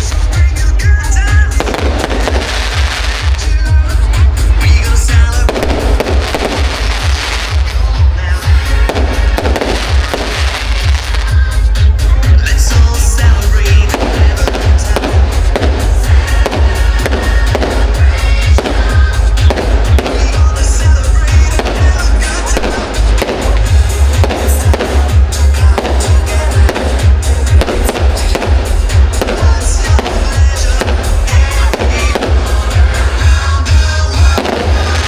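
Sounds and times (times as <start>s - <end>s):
fireworks banging and crackling: 0.0s - 35.0s
loud music with heavy bass: 0.0s - 35.0s.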